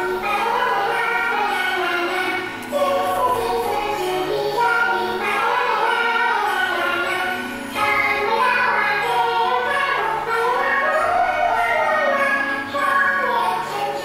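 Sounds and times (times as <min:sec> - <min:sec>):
person singing a melody: 0:00.0 - 0:14.0.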